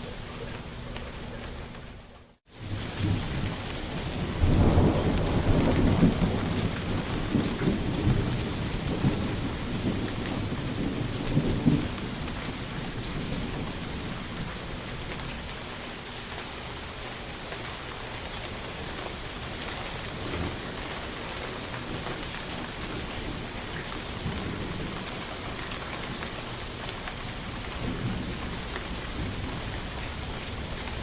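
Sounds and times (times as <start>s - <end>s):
heavy rain: 0.0s - 31.0s
thunder rolling: 2.6s - 15.7s, 18.9s - 31.0s.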